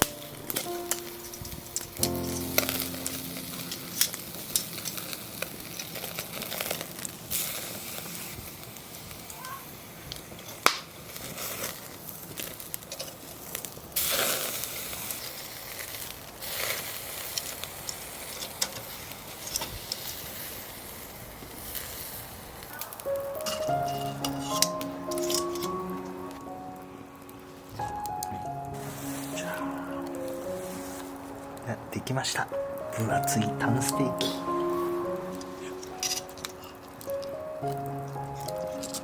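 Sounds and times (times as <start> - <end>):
crackles and pops: 0.0 - 31.6
meat sizzling over charcoal: 0.0 - 39.0.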